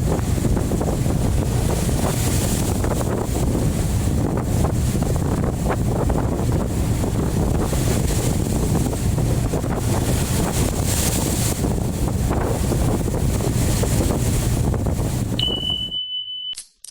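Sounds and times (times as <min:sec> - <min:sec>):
wind buffeting microphone: 0:00.0 - 0:15.6
waves against a ship: 0:00.0 - 0:15.9.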